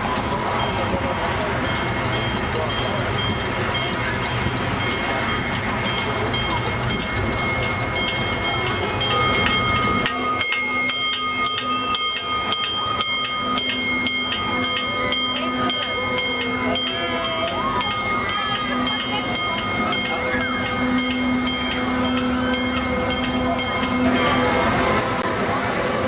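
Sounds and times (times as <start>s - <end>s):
miniature train engine rumble: 0.0s - 26.0s
wheels clicking over rail joints: 0.0s - 26.0s.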